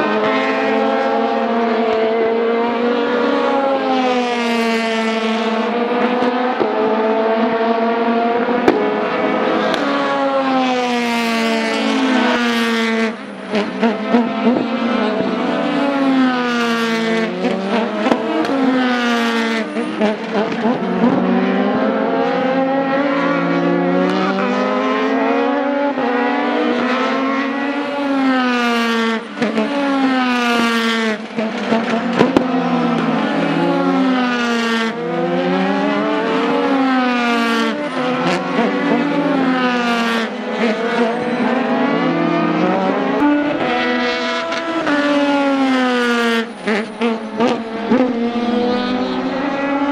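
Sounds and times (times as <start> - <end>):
race car engines passing: 0.0 - 49.9.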